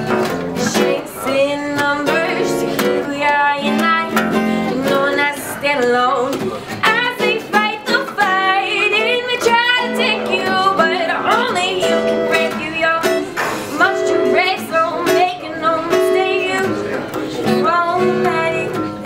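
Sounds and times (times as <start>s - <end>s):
acoustic bass guitar: 0.0s - 19.0s
strummed acoustic guitar: 0.0s - 19.0s
woman singing: 0.0s - 19.0s.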